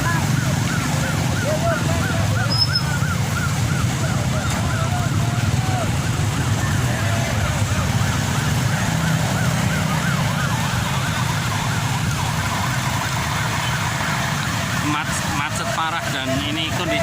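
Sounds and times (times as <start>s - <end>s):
siren yelping: 0.0s - 17.0s
vehicle engines rumbling: 0.0s - 17.0s.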